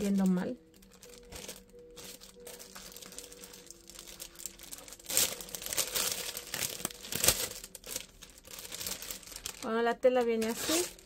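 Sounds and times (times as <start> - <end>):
sharp crackle: 0.0 - 9.7
paper and plastic packaging crinkling: 0.0 - 11.0.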